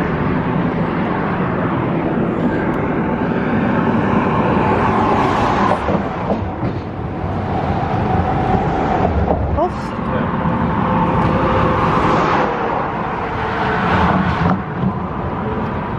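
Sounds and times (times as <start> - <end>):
passing traffic: 0.0 - 15.9.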